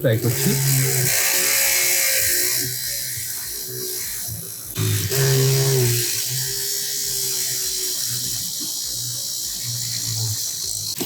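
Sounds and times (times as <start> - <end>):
mini drill whining: 0.2 - 11.0.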